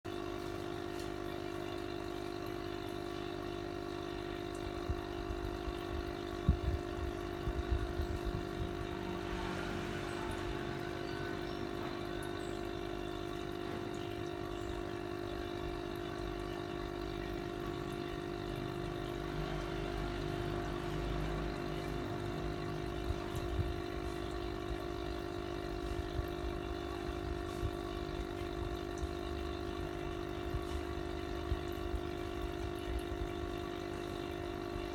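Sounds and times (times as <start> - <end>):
aquarium air pump humming: 0.0 - 34.9.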